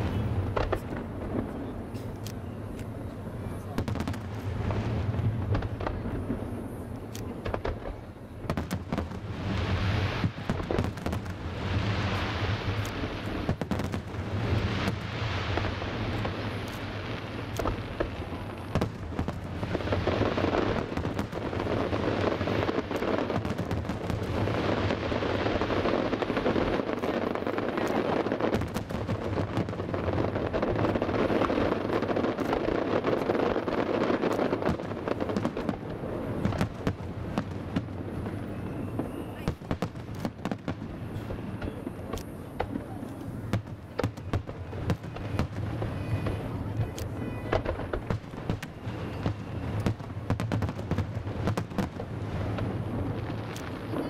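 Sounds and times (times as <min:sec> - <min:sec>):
firework bangs: 0:00.0 - 0:54.0
firework crackling: 0:00.0 - 0:54.0.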